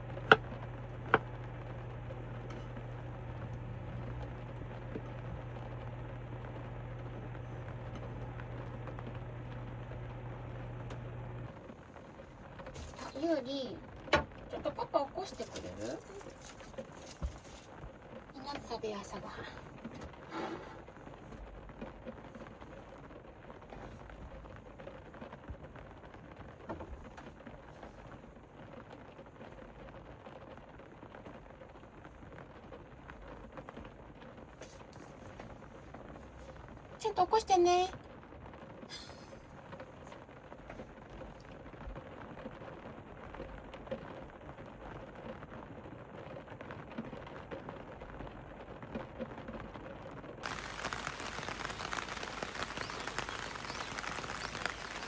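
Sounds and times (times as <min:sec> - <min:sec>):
rain pattering on roof: 0:00.0 - 0:55.0.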